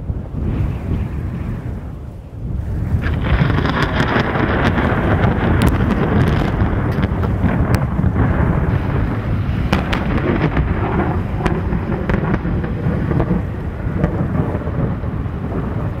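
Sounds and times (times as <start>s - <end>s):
low rumble of thunder: 0.0s - 16.0s
rain: 0.0s - 16.0s
sharp crackles: 0.3s - 16.0s.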